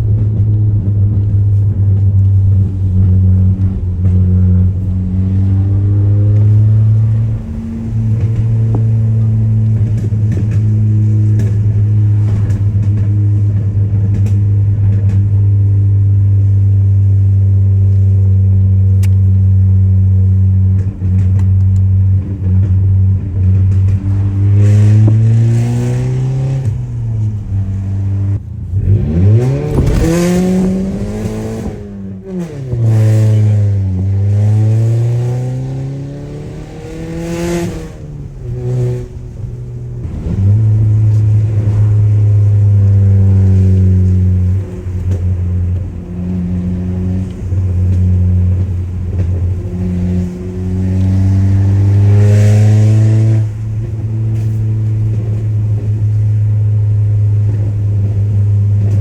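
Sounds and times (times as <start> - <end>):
loud car exhaust drone: 0.0 - 59.0.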